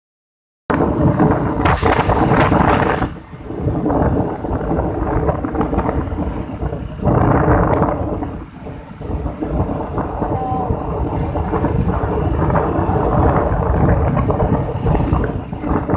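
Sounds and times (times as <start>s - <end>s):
wind buffeting microphone: 0.7s - 15.9s.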